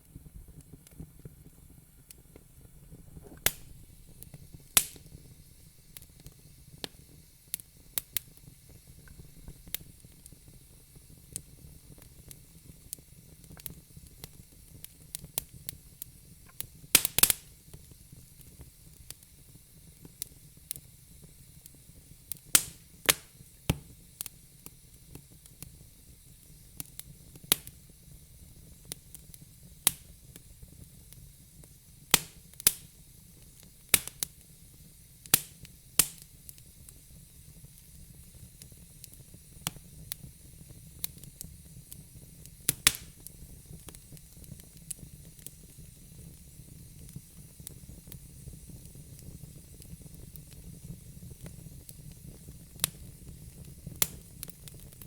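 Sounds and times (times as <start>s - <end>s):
faint steady hiss: 0.0s - 55.0s
fire popping and snapping: 0.0s - 55.0s.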